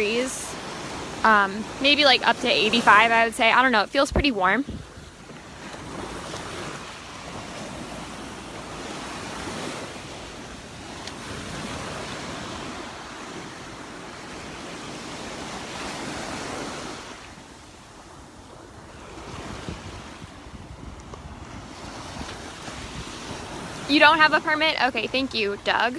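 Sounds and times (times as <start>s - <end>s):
wind buffeting microphone: 0.0s - 17.2s, 17.9s - 25.9s
small surf breaking on beach: 0.0s - 25.9s.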